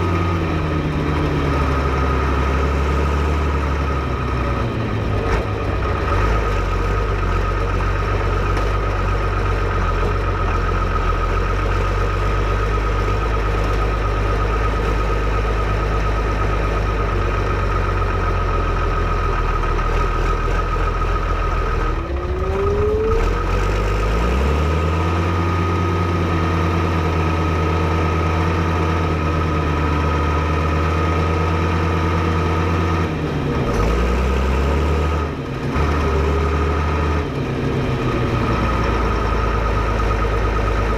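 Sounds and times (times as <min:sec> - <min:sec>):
diesel tractor engine revving: 0:00.0 - 0:40.9.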